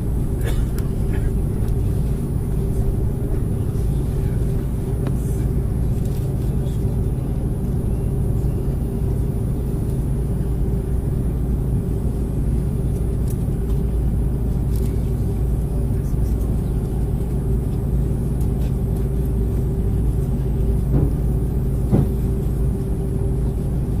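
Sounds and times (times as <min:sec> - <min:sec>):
aircraft cabin rumble and hum: 0:00.0 - 0:24.0.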